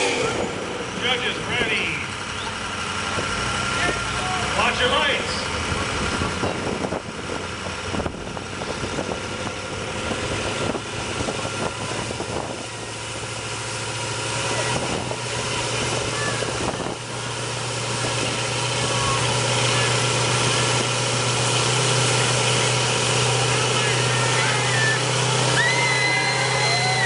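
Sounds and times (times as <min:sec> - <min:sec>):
truck engines revving high: 0:00.0 - 0:27.0
tyres spinning on pavement: 0:00.0 - 0:27.0.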